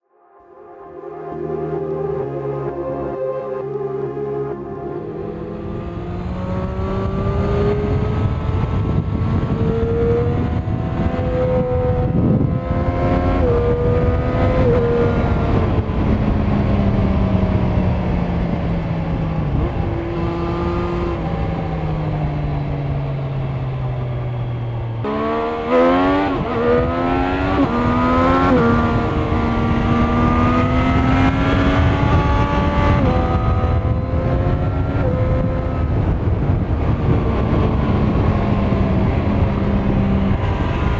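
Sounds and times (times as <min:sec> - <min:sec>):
motorcycle engine accelerating: 0:04.7 - 0:40.9.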